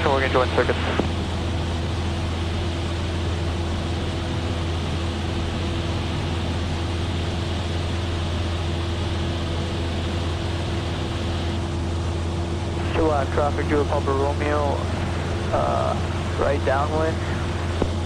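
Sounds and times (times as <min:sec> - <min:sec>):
airflow noise: 0:00.0 - 0:11.7, 0:12.6 - 0:18.0
aircraft engine and propeller drone: 0:00.0 - 0:18.0.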